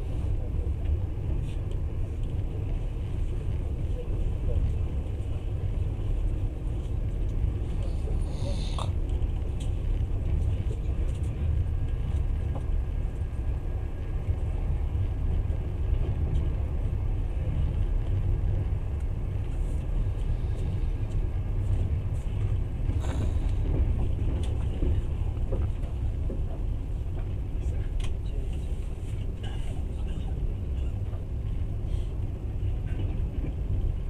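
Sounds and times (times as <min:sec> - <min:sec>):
train rumble inside carriage: 0:00.0 - 0:34.0.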